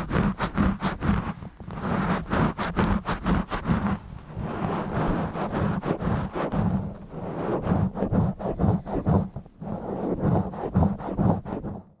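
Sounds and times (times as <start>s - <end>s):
fingers scratching microphone: 0.0s - 12.0s.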